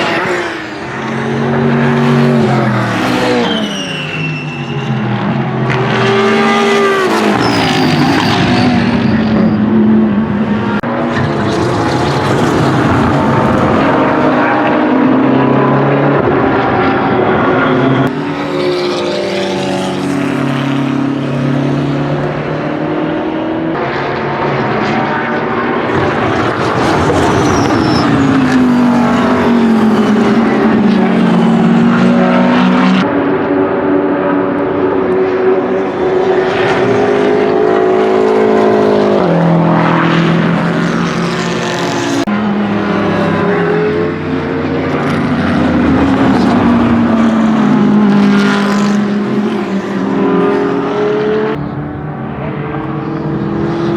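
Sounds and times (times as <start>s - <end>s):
racing car engine at full load: 0.0s - 53.9s.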